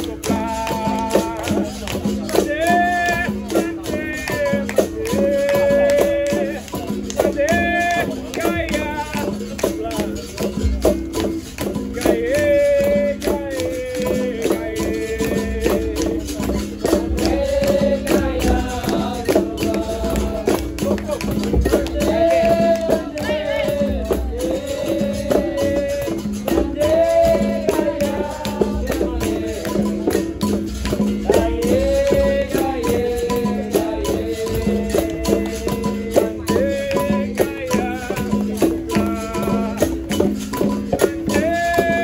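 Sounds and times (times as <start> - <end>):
person singing: 0.0 - 10.3, 12.0 - 40.1, 41.0 - 42.0
berimbau playing a rhythm: 0.0 - 42.0
hand percussion strikes: 0.0 - 42.0
shaker rattle: 0.0 - 42.0.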